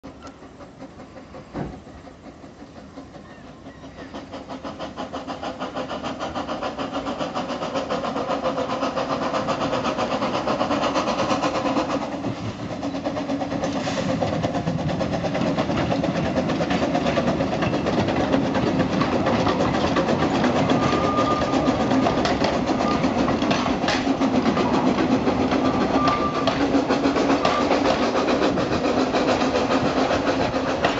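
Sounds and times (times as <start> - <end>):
carriages running on rails: 0.0 - 30.9
steam locomotive exhaust beats: 0.0 - 30.9.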